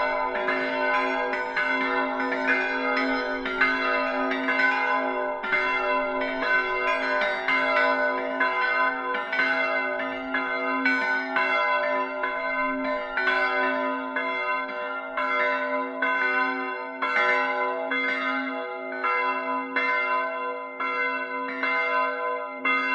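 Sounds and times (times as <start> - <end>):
bells pealing: 0.0 - 18.4.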